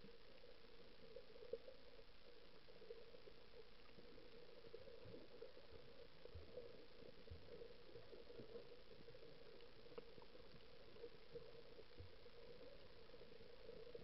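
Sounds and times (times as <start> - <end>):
faint tick: 0.0 - 14.0
low underwater hum: 0.0 - 14.0.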